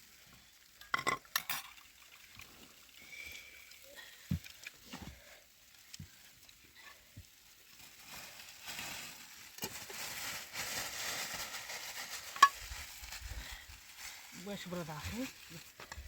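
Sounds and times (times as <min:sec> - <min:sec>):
food sizzling in a pan: 0:00.0 - 0:04.4, 0:05.2 - 0:16.0.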